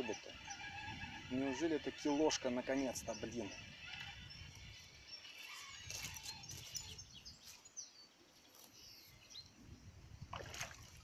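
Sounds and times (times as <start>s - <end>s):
small birds chirping: 0.0s - 10.0s
faint outdoor background noise: 0.0s - 11.0s.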